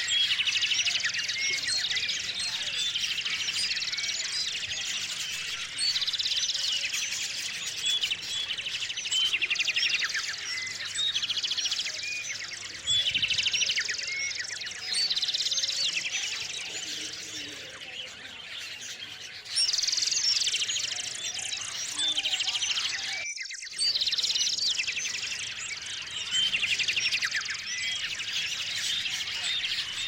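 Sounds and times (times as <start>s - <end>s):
bird trill: 0.0s - 30.0s
songbirds chirping: 0.0s - 30.0s.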